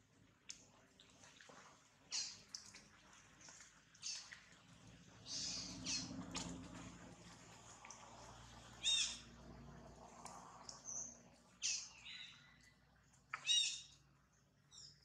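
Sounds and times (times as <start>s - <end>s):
faint forest background: 0.0s - 15.0s.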